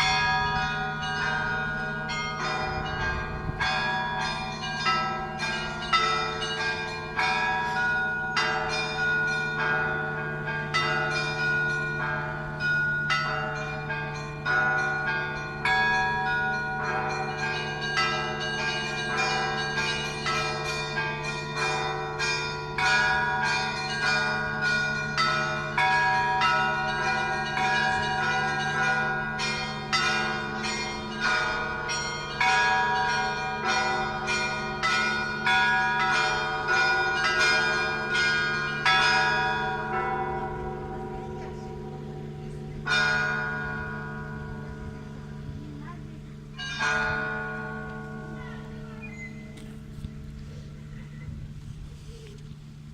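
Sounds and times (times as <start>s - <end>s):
small bells striking: 0.0s - 46.0s
low hum of large bells: 0.0s - 52.9s.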